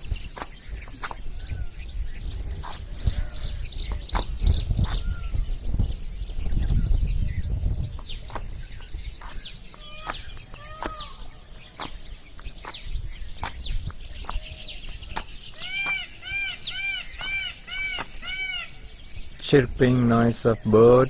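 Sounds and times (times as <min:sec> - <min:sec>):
rising-then-falling bird calls: 0:00.0 - 0:05.7, 0:06.4 - 0:19.4
birds chirping: 0:00.0 - 0:21.0.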